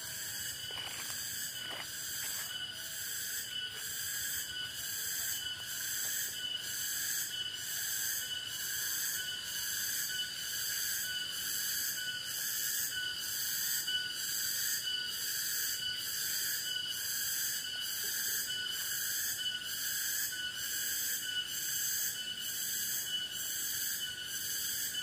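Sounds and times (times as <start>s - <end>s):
insects low steady trilling: 0.0s - 25.0s
insects shrill pulsing buzz: 0.0s - 25.0s.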